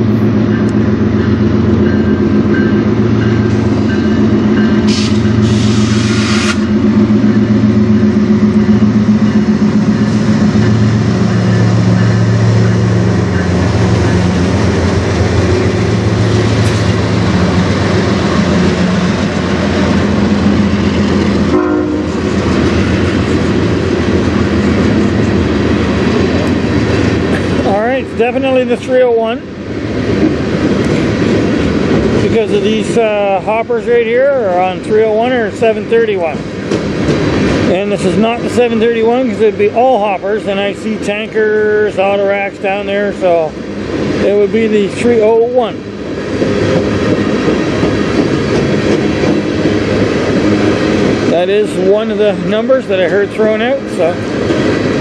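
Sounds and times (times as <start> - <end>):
diesel locomotive engines droning: 0.0 - 55.0
train wheels clattering on rails: 0.0 - 55.0.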